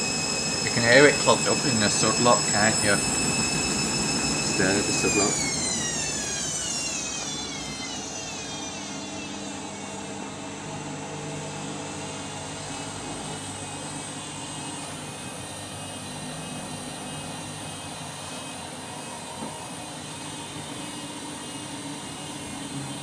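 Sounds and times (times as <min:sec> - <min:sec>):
steady mechanical hum: 0:00.0 - 0:23.0
washing machine motor winding down: 0:00.0 - 0:23.0.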